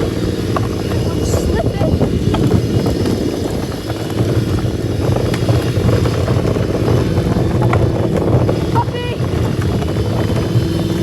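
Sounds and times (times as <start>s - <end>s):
rattles and clicks: 0.0s - 11.0s
towed toy tractor rumbling: 0.0s - 11.0s.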